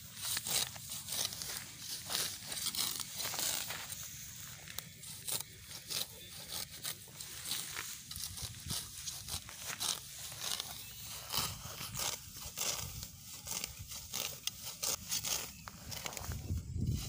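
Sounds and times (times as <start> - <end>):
grass being torn by hand: 0.0 - 17.0.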